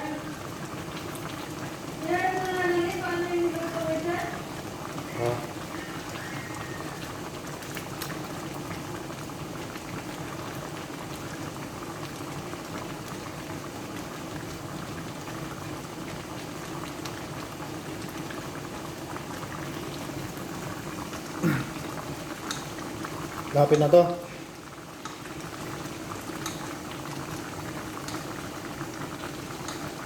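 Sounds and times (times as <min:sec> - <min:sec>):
sauce bubbling in pan: 0:00.0 - 0:30.0.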